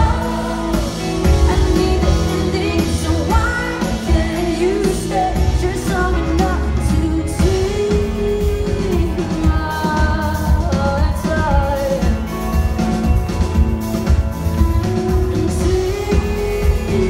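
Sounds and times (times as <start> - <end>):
person singing: 0.0 - 13.6, 14.8 - 17.0
live pop-rock band: 0.0 - 17.0.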